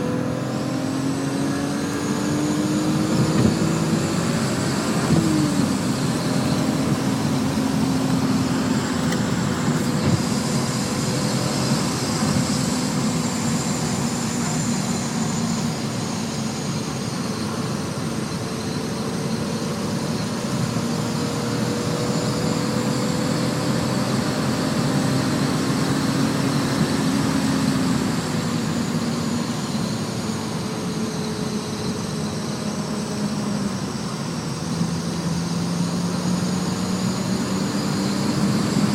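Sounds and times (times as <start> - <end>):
car engine at high speed: 0.0 - 38.9
road and wind noise: 0.0 - 38.9.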